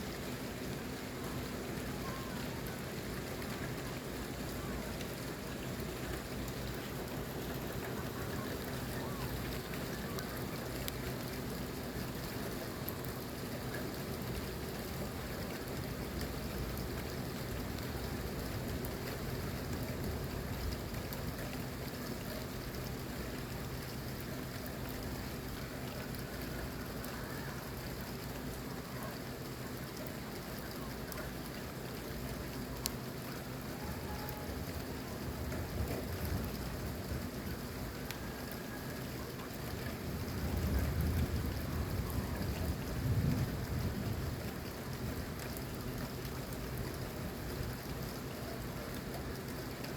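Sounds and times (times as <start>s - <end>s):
steady rain hiss: 0.0s - 49.9s
raindrop ticks: 0.6s - 49.9s.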